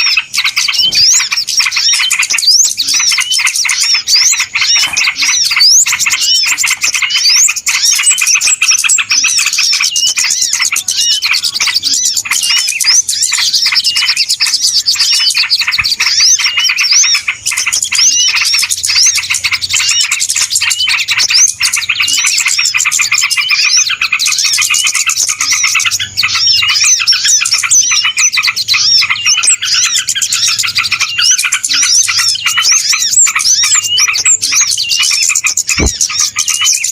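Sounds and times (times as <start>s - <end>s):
small birds chirping and twittering: 0.0s - 36.9s.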